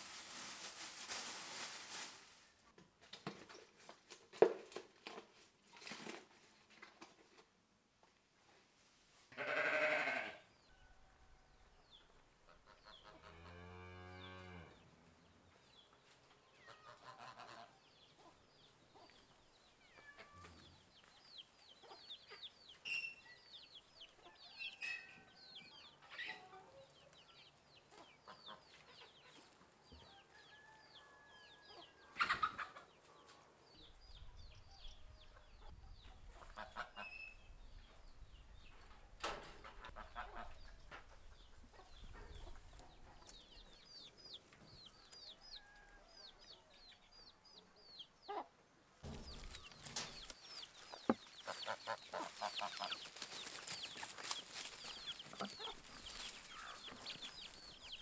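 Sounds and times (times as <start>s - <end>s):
chickens clucking and chirping: 11.2s - 58.0s.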